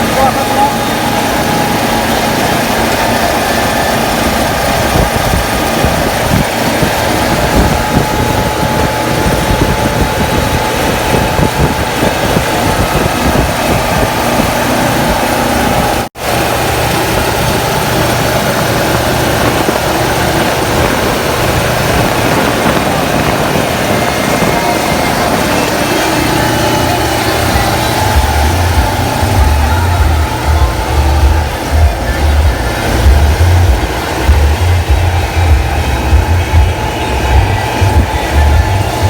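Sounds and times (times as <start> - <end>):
steady engine whine: 0.0 - 39.0
tractor diesel engine chugging: 0.0 - 39.0.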